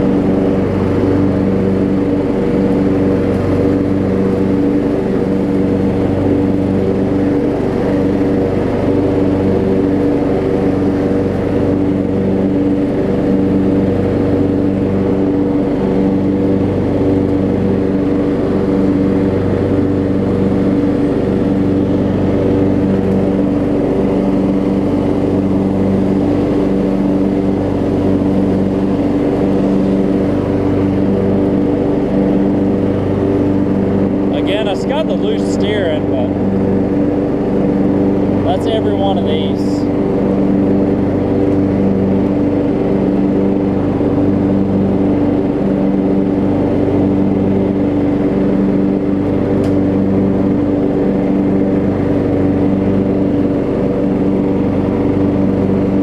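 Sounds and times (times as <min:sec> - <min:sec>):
riding mower engine running: 0:00.0 - 0:56.0.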